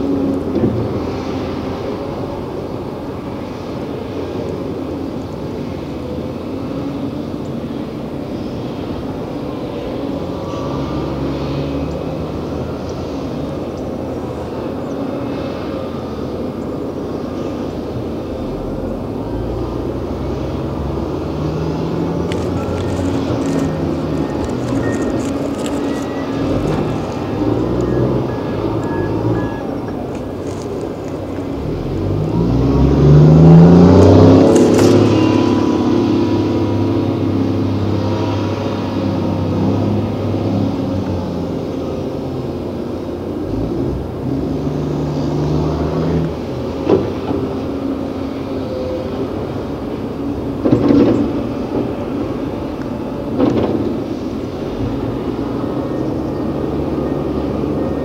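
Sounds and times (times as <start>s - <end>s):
large diesel engine running: 0.0s - 58.0s.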